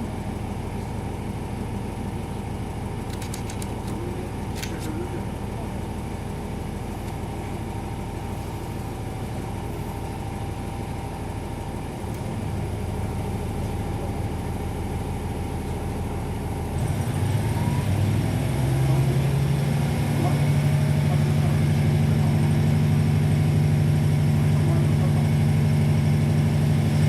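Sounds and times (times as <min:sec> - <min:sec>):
diesel engine low hum: 0:00.0 - 0:27.0.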